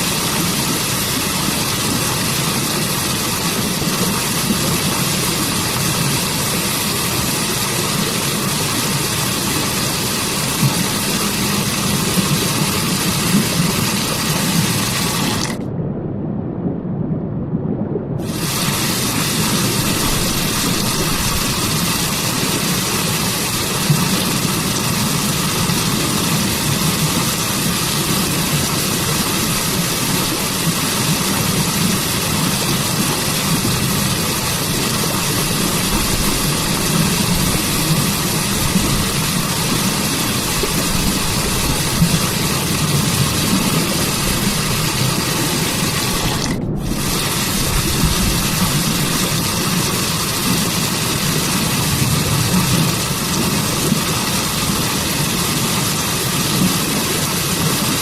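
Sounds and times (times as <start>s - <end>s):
waterfall roaring: 0.0s - 15.6s, 18.2s - 58.0s.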